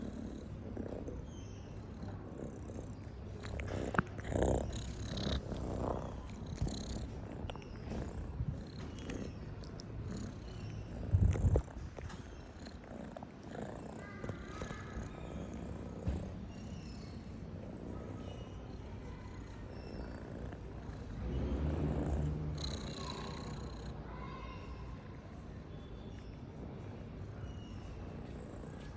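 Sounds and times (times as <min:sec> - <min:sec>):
cat purring: 0:00.0 - 0:28.9.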